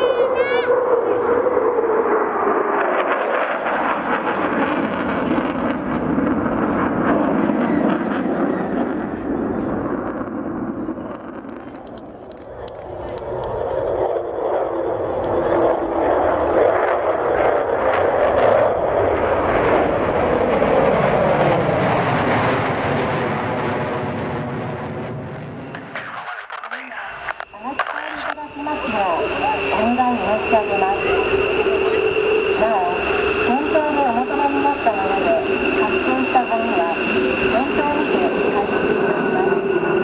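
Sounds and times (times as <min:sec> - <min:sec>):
jet engines on afterburner: 0:00.0 - 0:40.0.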